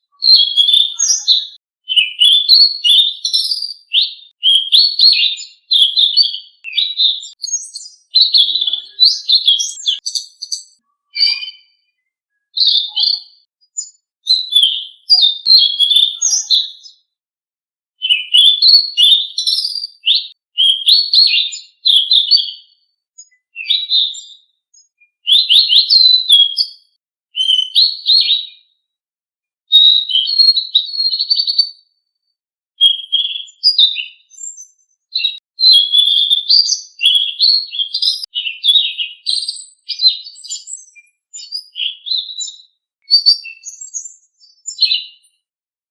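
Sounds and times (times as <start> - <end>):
songbird chirping and whistling: 0.0 - 17.1, 18.0 - 28.7, 29.7 - 31.8, 32.8 - 45.4.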